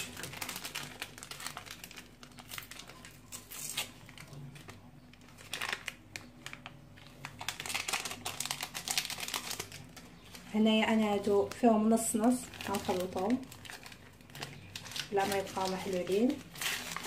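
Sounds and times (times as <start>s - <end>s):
paper sachets crinkling and tearing: 0.0s - 17.0s.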